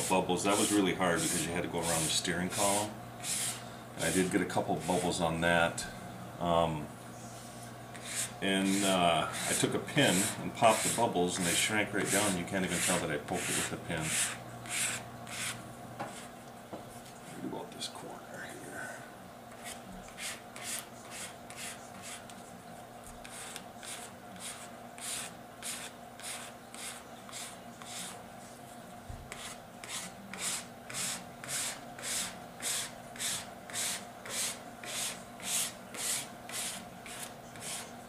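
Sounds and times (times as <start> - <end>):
plastic card scraping wet vinyl: 0.0 - 5.2, 8.0 - 16.3, 19.5 - 28.2, 29.3 - 38.0.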